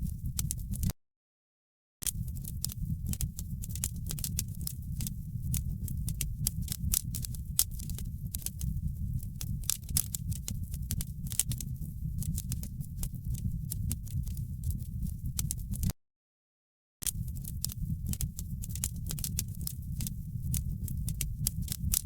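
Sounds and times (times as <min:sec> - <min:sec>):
wood fire crackling: 0:02.1 - 0:15.9, 0:17.1 - 0:22.0.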